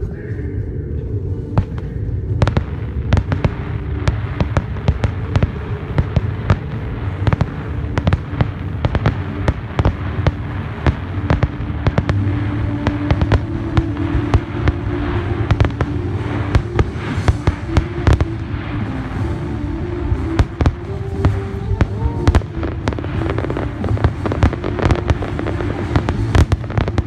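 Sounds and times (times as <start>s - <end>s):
steady low rumble: 0.0s - 27.0s
fireworks bursting with sharp bangs: 1.6s - 27.0s.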